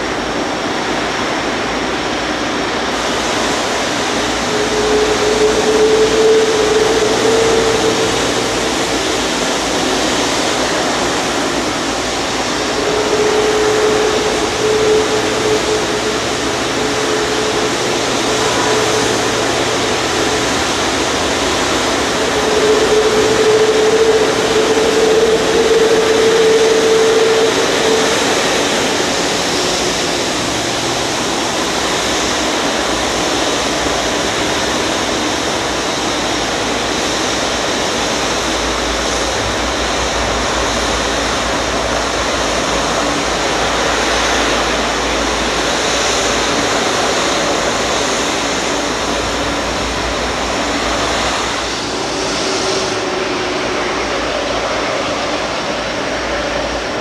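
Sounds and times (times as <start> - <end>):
high jet engine whine: 0.0 - 57.0
jet engines roaring: 0.0 - 57.0.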